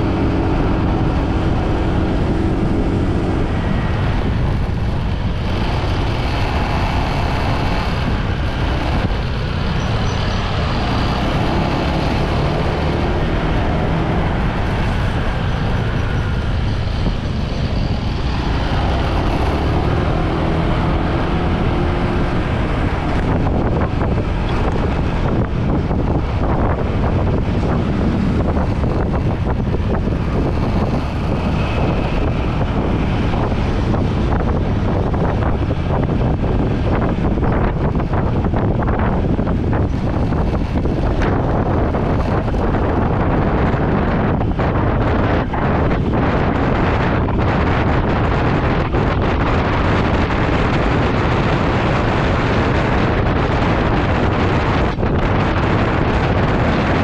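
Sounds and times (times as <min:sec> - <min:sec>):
motorbike road noise: 0:00.0 - 0:57.0
wind buffeting microphone: 0:00.0 - 0:57.0.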